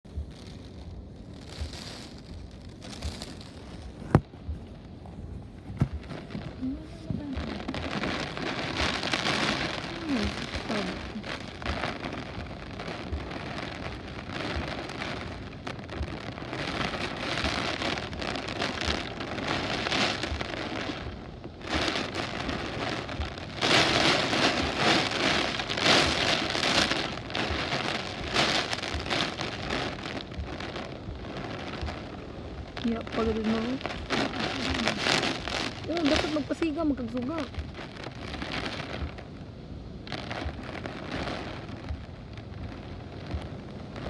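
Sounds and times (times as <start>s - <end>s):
heavy rain: 0.0s - 44.0s
strong gusting wind: 0.1s - 44.0s.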